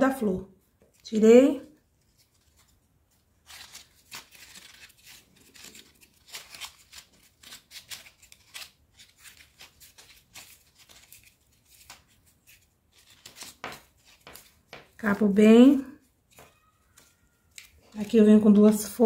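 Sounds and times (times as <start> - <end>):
paper tape crinkling: 1.8 - 15.0, 16.2 - 19.0.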